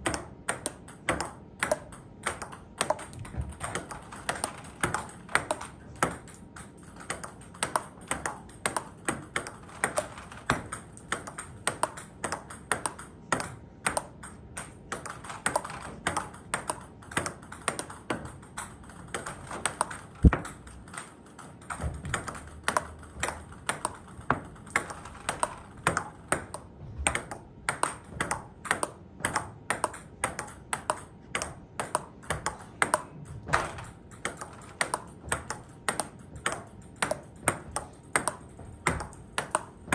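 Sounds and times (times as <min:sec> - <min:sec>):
ping pong ball clicking: 0:00.0 - 0:39.9.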